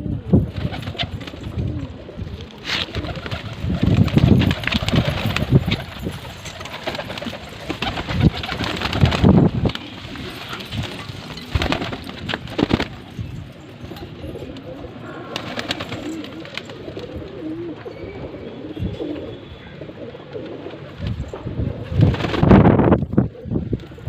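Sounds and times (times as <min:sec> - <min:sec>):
pigeons cooing: 0:00.0 - 0:11.8, 0:13.9 - 0:22.5, 0:23.1 - 0:24.0.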